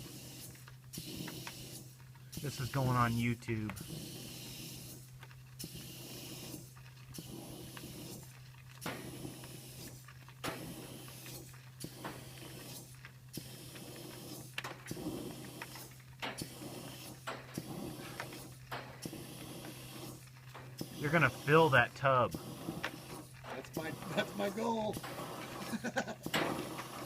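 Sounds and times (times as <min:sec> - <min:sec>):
air hissing through dryer vent: 0:00.0 - 0:27.0.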